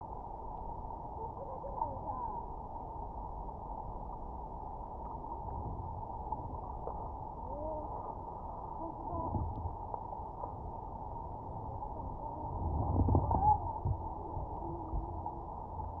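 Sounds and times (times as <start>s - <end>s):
muffled underwater river rush: 0.0s - 16.0s.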